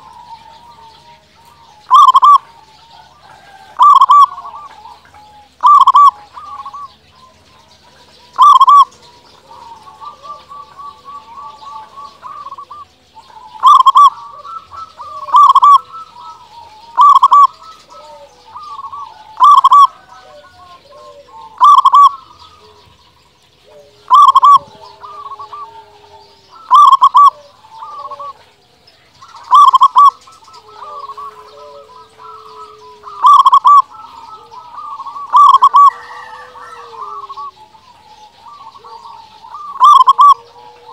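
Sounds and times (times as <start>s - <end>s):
dove cooing: 0.0s - 40.9s
other birds chirping: 0.0s - 40.9s.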